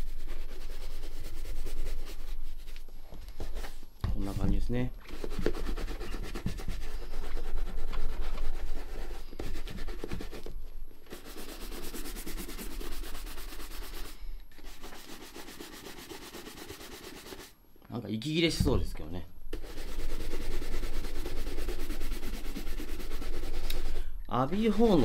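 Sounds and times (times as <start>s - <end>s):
brush rubbing on leather: 0.0s - 4.4s, 5.0s - 17.5s, 19.6s - 25.0s.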